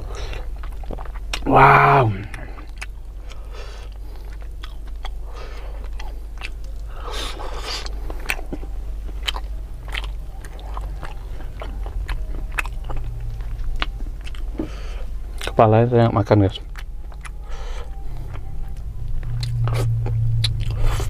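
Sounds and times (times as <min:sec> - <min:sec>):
close chewing and crunching: 0:00.0 - 0:21.0.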